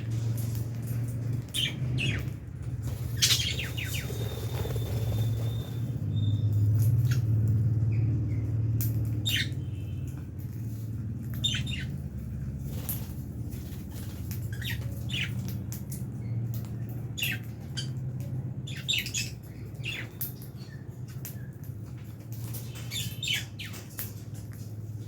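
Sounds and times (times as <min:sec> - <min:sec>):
birds squawking and chirping: 0:00.0 - 0:24.7.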